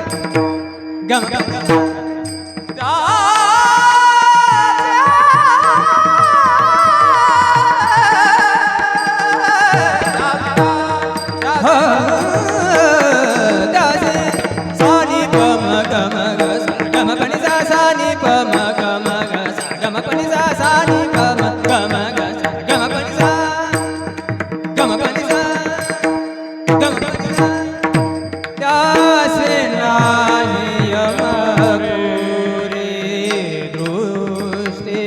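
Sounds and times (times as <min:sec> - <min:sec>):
instrumental accompaniment: 0:00.0 - 0:35.0
person singing devotional melody: 0:00.0 - 0:35.0.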